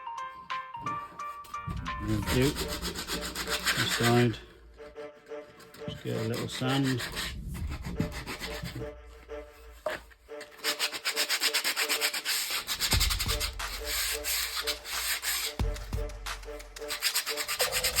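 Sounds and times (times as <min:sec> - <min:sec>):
sandpaper rubbing on wood: 0:02.0 - 0:04.5, 0:05.8 - 0:18.0.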